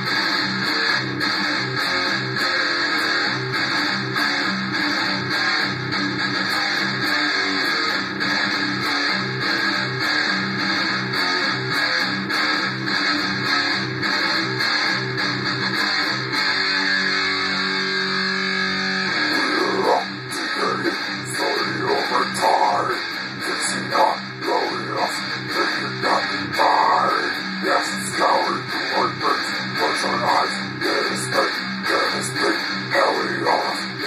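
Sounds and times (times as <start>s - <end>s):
electric guitar riff: 0.0s - 34.0s.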